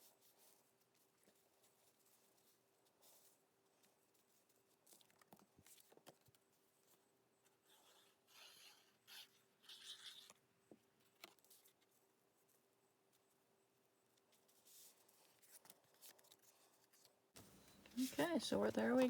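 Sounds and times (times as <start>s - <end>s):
faint paper rustling: 0.0s - 19.0s.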